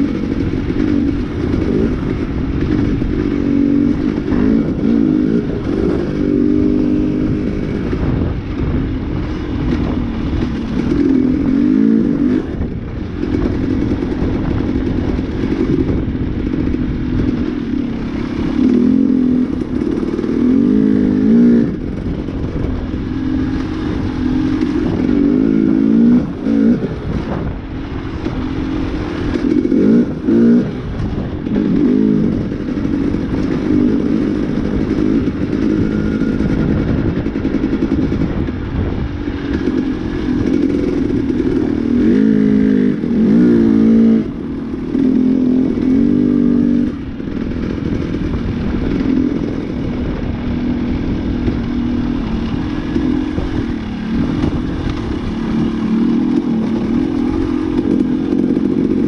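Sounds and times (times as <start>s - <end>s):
dirt bike engine revving: 0.0s - 59.0s
wind and road noise: 0.0s - 59.0s.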